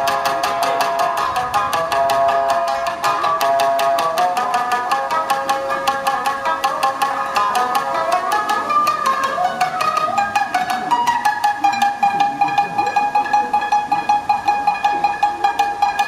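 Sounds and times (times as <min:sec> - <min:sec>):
shamisen plucked with plectrum: 0:00.0 - 0:16.0.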